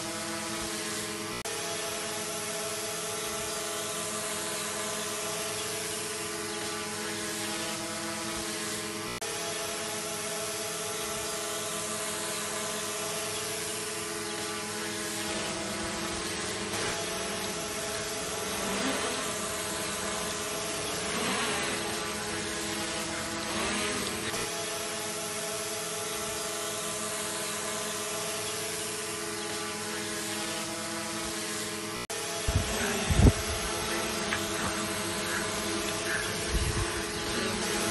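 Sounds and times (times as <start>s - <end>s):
quadcopter propellers buzzing: 0.0s - 37.9s.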